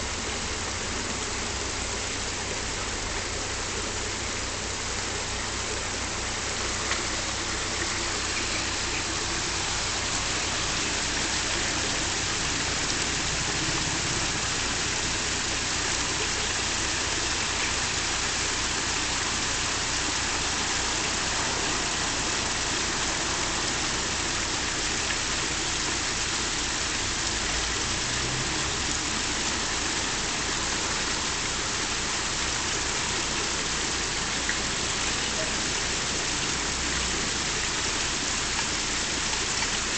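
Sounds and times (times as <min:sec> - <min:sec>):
water rushing into lock: 0:00.0 - 0:39.9.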